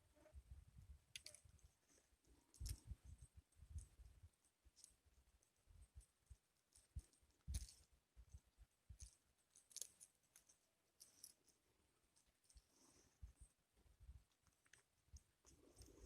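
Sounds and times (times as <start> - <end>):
faint irregular clicks: 1.1 - 16.0.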